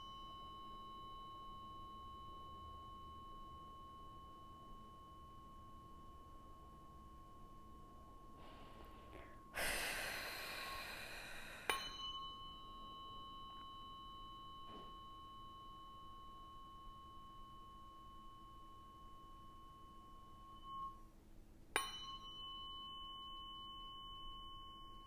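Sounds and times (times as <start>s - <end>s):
tuning fork ringing: 0.0s - 25.0s.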